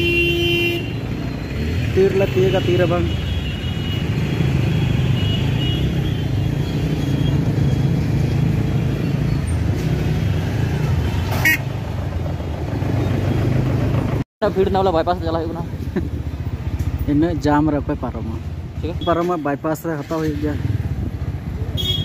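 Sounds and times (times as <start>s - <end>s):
motorcycle and car engines humming: 0.0s - 22.0s.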